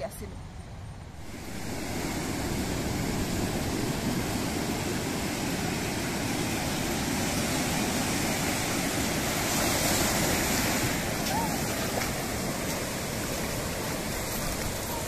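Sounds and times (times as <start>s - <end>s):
waves breaking on a beach: 1.2s - 15.0s.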